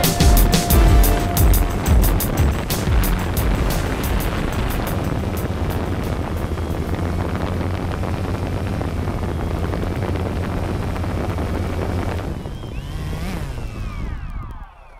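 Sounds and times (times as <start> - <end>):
wind on microphone: 0.0 - 14.6
drone propellers buzzing: 0.0 - 14.9.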